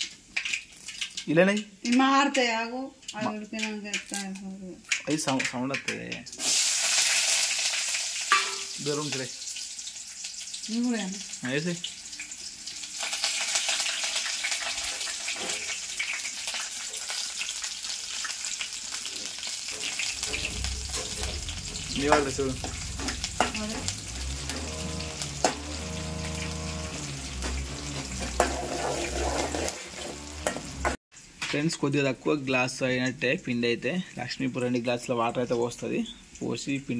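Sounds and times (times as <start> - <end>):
oil crackling: 0.0 - 31.8
vegetables sizzling in hot oil: 0.0 - 36.9.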